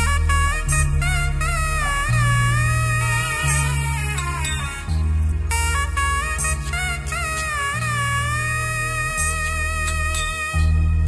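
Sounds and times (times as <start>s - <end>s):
sustained bass notes: 0.0s - 11.0s
wavering held melody note: 0.0s - 11.0s.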